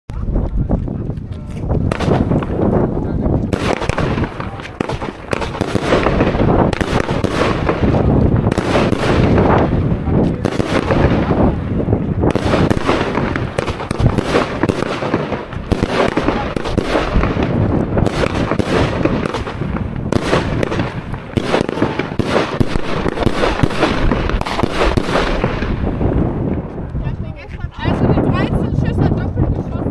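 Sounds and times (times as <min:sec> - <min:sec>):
fireworks launches and bursts: 0:01.9 - 0:26.9.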